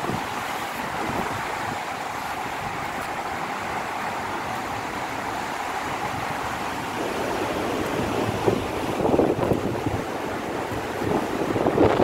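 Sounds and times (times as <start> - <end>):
waterfall roaring: 0.0 - 12.0
wind buffeting microphone: 0.0 - 12.0.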